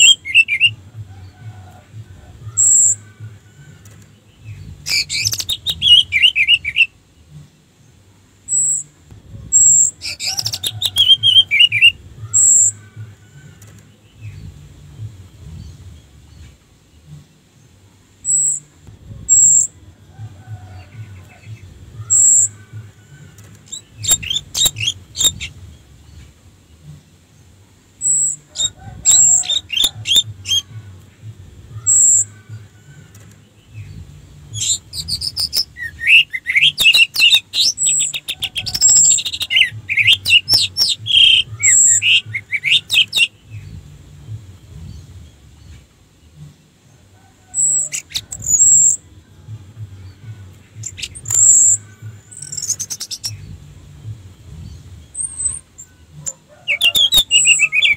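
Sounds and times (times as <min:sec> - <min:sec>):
thrush singing: 0:00.0 - 0:57.9.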